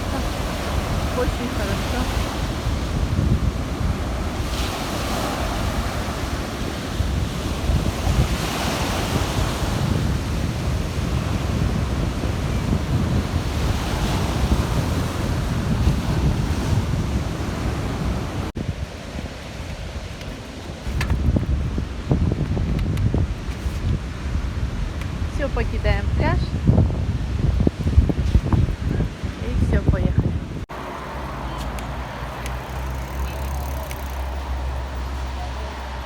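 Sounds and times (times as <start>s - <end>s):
surf breaking on beach: 0.0s - 36.0s
wind rumbling on microphone: 0.0s - 36.0s.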